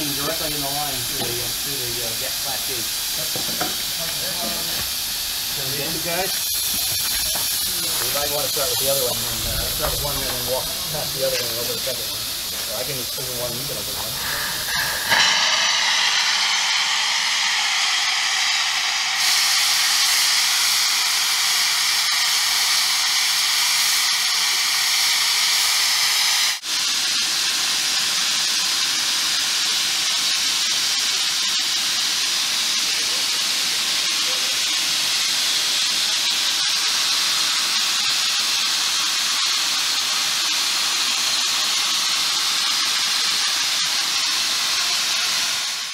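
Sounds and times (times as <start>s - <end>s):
steam hissing through a valve: 0.0s - 45.9s.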